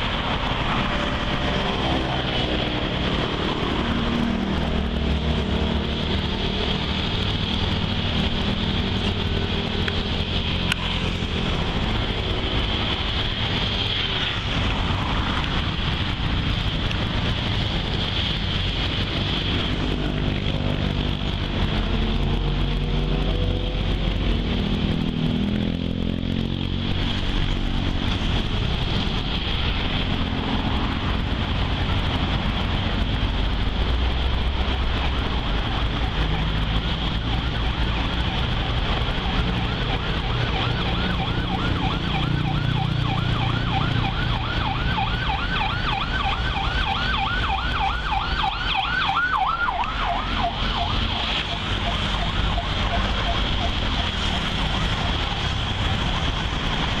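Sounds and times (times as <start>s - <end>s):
vehicle engines passing: 0.0s - 57.0s.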